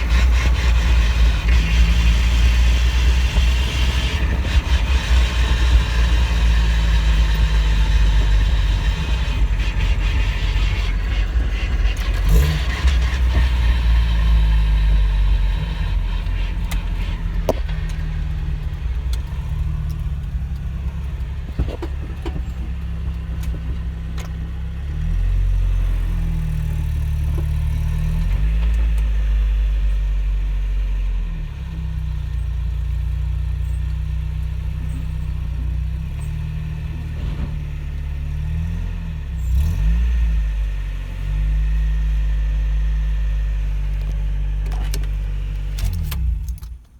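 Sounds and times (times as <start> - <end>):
car engine droning: 0.0 - 46.9.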